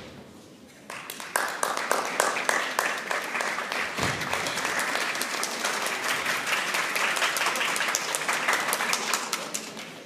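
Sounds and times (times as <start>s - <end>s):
crowd clapping: 0.9s - 10.0s.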